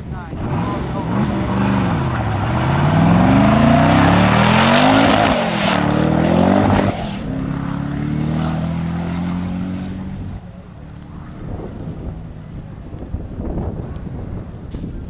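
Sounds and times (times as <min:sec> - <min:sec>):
car engine accelerating hard: 0:00.2 - 0:13.3.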